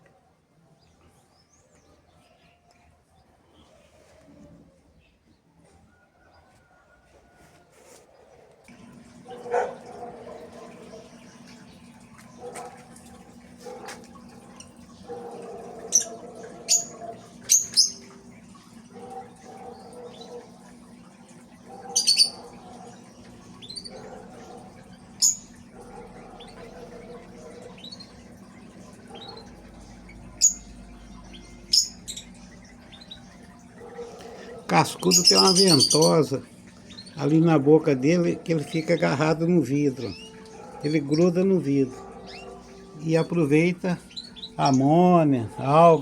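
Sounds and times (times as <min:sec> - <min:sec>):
cage birds chirping: 0:00.0 - 0:46.0.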